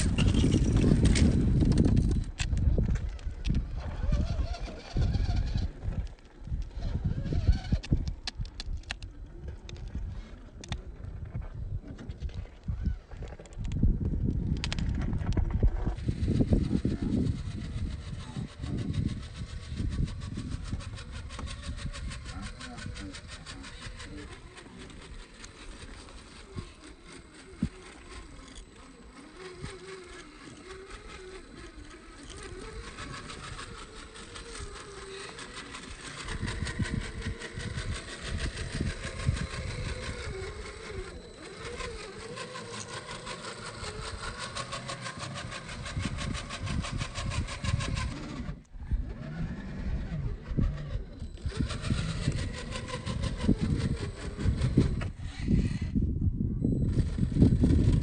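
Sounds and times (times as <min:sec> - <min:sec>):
small electric motor whining: 0:00.0 - 0:58.0.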